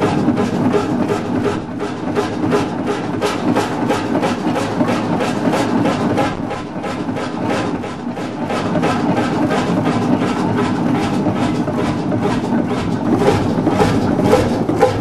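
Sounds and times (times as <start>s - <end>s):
hot bulb engine running: 0.0s - 15.0s.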